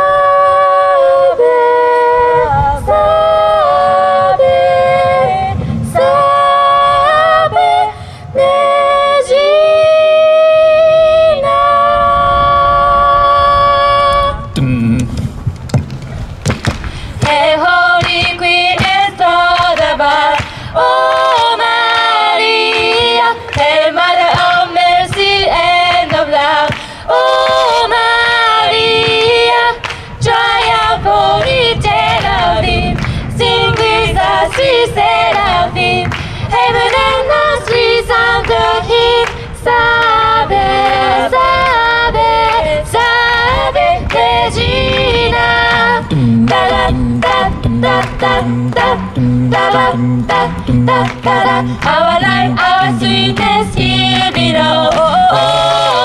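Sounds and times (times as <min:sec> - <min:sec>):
group singing in close harmony: 0:00.0 - 0:14.5, 0:17.0 - 0:56.0.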